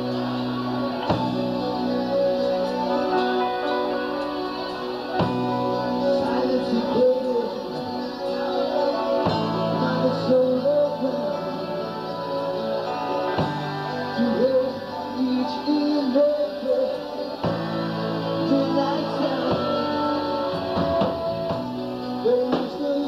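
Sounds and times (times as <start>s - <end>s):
electric guitar lead: 0.0s - 23.0s
live rock band: 0.0s - 23.0s.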